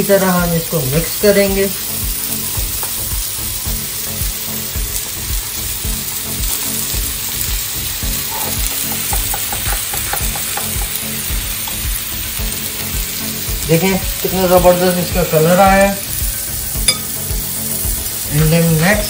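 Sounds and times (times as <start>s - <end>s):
chicken sizzling in a grill pan: 0.0s - 19.0s.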